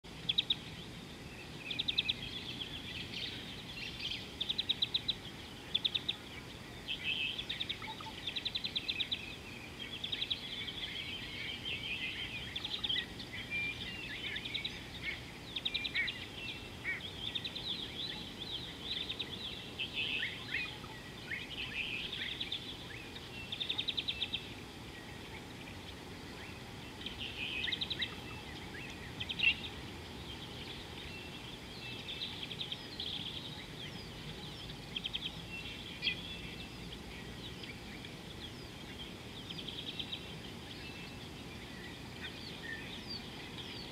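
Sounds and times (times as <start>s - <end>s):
birds trilling and chirping: 0.0s - 43.9s
steady low background noise: 0.0s - 43.9s.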